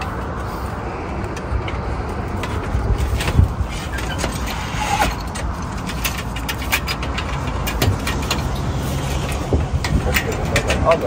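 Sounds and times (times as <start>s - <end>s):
metal frame clicks and knocks: 1.3s - 11.0s.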